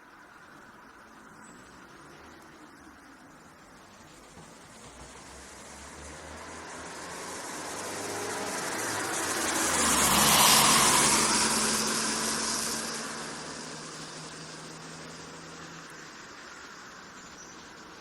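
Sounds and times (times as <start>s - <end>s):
road vehicle passing: 0.3s - 18.0s.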